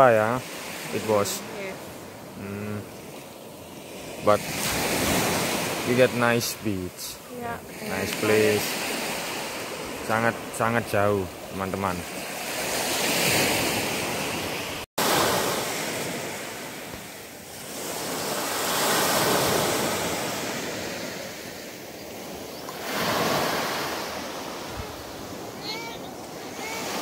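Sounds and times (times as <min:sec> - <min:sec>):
small waves breaking on beach: 0:00.0 - 0:27.0.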